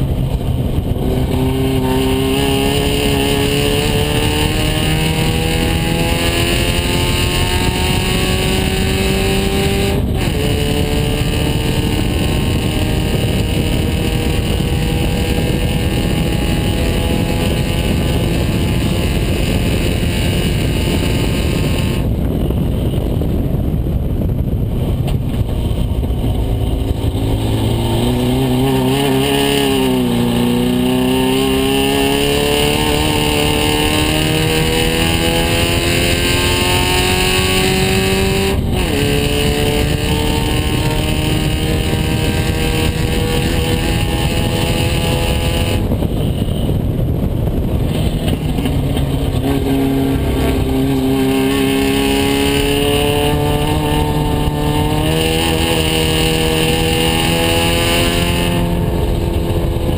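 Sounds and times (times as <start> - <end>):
race car engine: 0.0 - 59.9
rushing air: 0.0 - 59.9.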